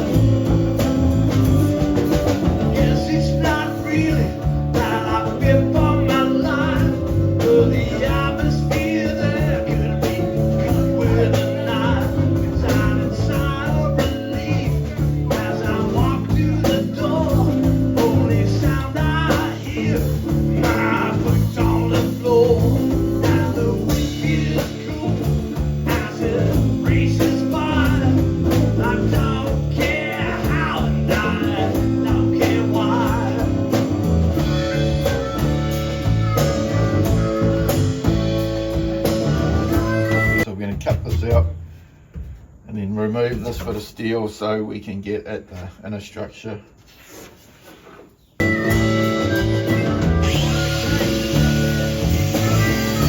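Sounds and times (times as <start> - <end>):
blues band with guitar and singing: 0.0 - 42.6, 48.3 - 53.0.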